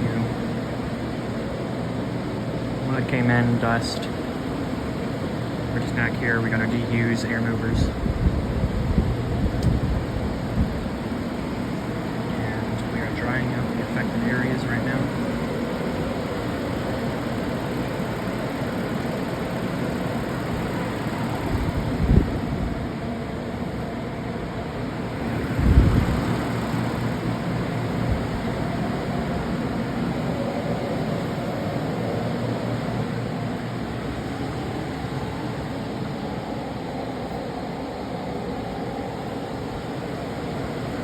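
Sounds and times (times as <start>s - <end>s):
fans running with low hum: 0.0s - 41.0s.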